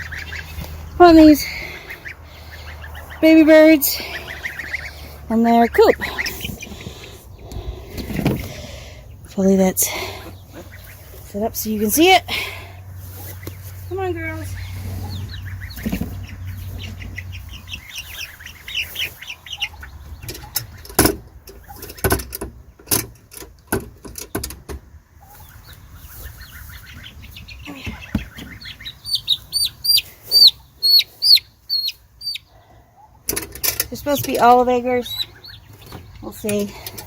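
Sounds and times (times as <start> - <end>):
chicks cheeping: 0.0 - 33.3, 33.9 - 37.0.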